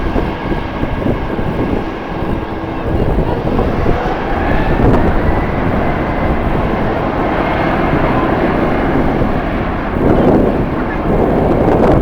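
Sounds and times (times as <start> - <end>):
jet airliner engines running: 0.0 - 12.0
wind buffeting microphone: 0.0 - 12.0.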